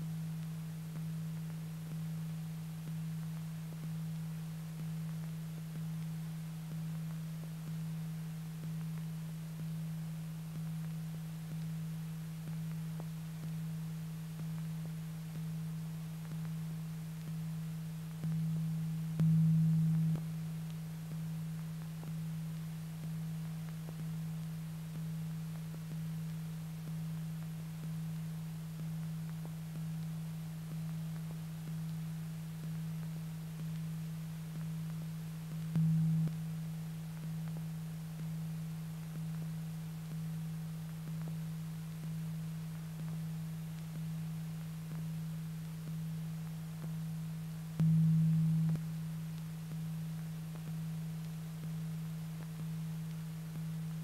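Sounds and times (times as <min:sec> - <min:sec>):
pulsing low hum: 0:00.0 - 0:54.0.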